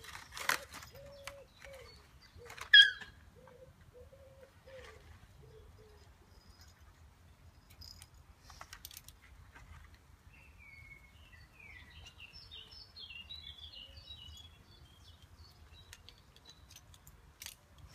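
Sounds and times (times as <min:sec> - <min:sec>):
songbird chirping: 0:00.0 - 0:17.9.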